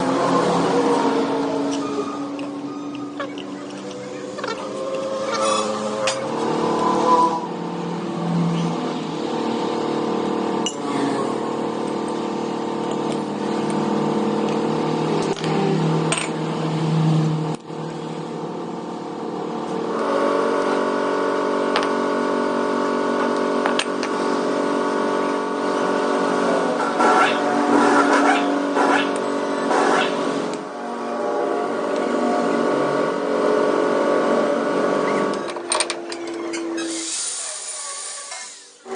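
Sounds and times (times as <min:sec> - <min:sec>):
motor humming: 0:00.0 - 0:38.9.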